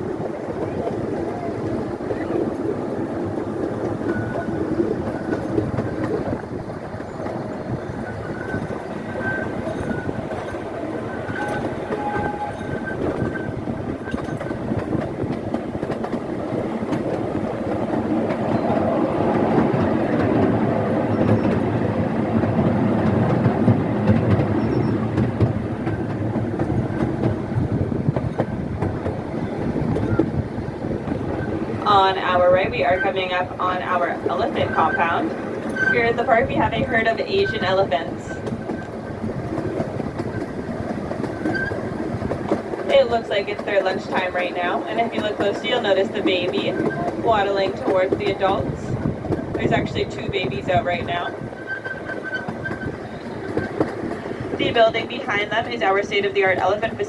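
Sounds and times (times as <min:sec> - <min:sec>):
train rumbling along track: 0:00.0 - 0:57.0
wheels clacking over rail joints: 0:00.0 - 0:57.0.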